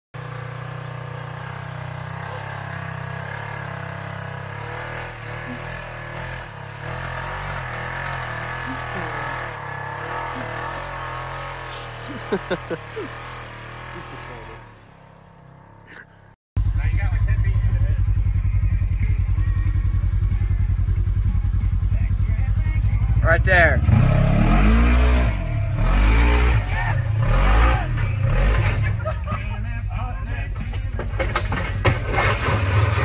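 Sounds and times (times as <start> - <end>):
utility vehicle engine under load: 0.2 - 17.1, 18.1 - 33.0.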